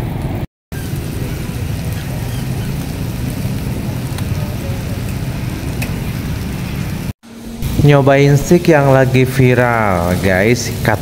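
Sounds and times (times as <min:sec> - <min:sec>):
chicken sizzling on a griddle: 0:00.7 - 0:11.0.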